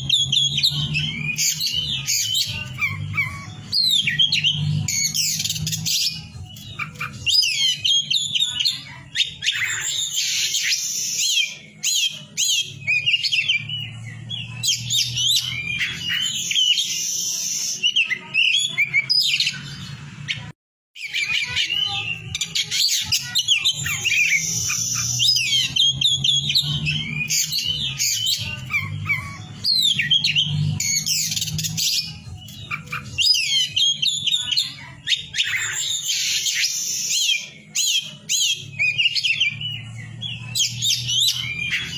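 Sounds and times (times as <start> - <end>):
bird singing chirps and trills: 0.0 - 41.9.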